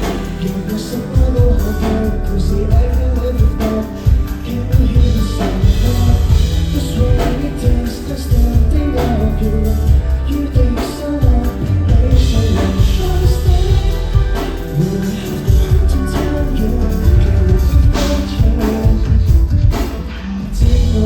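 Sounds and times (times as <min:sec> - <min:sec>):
live band playing pop song: 0:00.0 - 0:21.0
person singing: 0:00.0 - 0:21.0.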